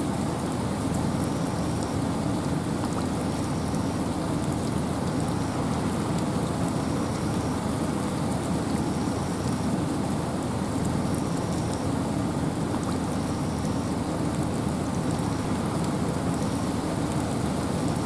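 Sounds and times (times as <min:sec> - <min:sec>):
rain and wind in forest: 0:00.0 - 0:18.0.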